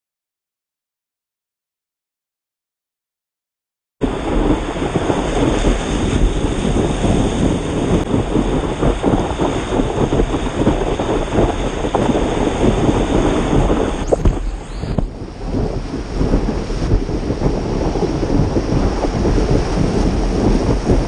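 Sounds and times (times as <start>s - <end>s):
breaking wave whitewater: 4.0s - 21.0s
wind buffeting microphone: 4.0s - 21.0s.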